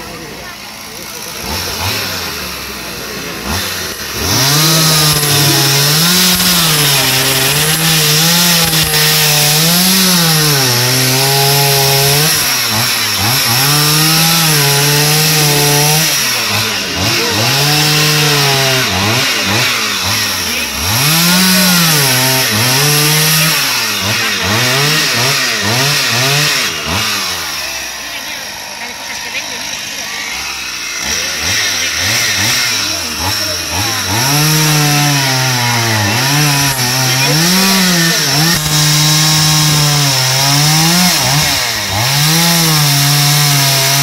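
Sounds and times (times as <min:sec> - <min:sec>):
chainsaw cutting wood: 0:00.0 - 0:44.0.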